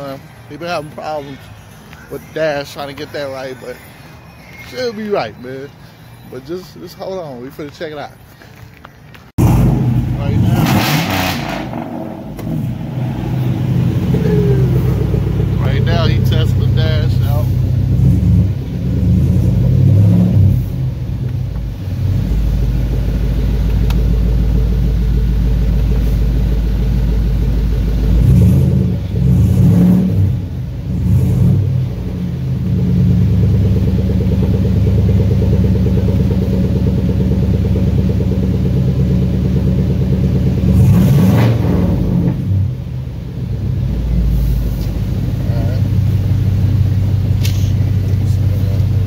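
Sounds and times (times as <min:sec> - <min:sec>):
car engine idling: 0:00.0 - 0:29.7, 0:30.4 - 0:49.0.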